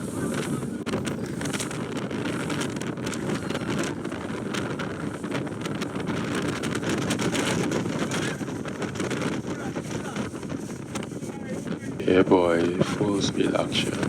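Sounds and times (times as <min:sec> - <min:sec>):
motorboat engine and water rush: 0:00.0 - 0:14.0
wind buffeting microphone: 0:00.0 - 0:14.0.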